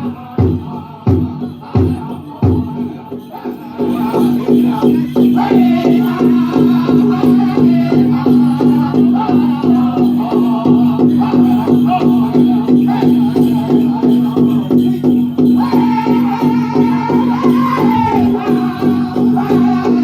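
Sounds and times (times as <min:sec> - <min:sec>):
men singing: 0:00.0 - 0:20.0
jingling rattle: 0:00.3 - 0:20.0
big drum beating: 0:03.8 - 0:20.0.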